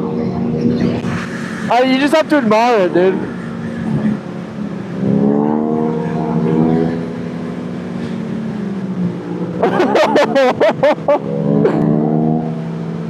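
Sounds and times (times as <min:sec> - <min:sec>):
sport bike engines running: 0:00.0 - 0:13.0.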